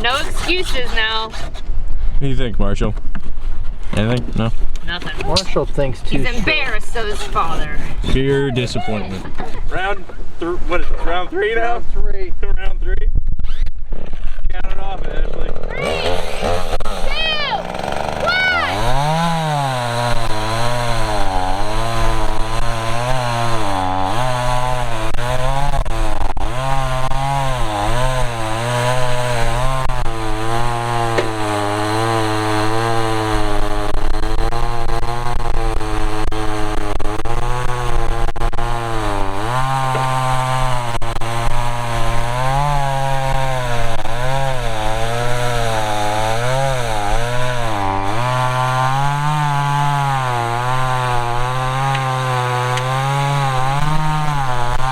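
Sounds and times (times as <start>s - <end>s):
electric chainsaw cutting: 0.0s - 1.7s, 4.0s - 10.1s, 15.5s - 54.9s
gas chainsaw cutting log: 0.0s - 2.3s, 3.2s - 11.2s, 13.5s - 54.9s.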